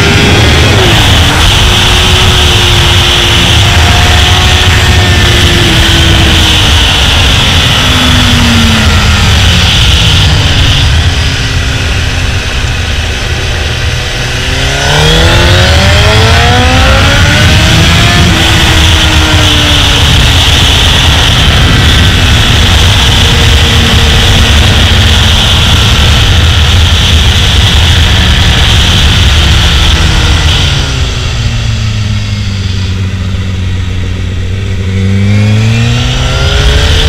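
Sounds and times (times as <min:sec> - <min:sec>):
motorcycle engine revving: 0:00.0 - 0:37.0
wind rushing over microphone: 0:00.0 - 0:37.0.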